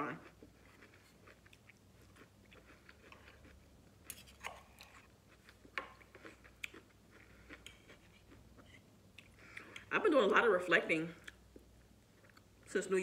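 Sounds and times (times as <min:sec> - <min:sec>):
chewing food: 0:00.1 - 0:09.9, 0:11.2 - 0:12.7.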